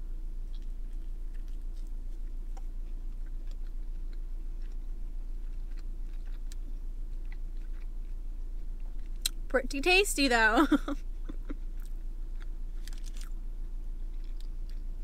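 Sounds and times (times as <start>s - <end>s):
steady low hum: 0.0s - 15.0s
person chewing with wet clicks: 0.4s - 9.4s, 11.5s - 15.0s.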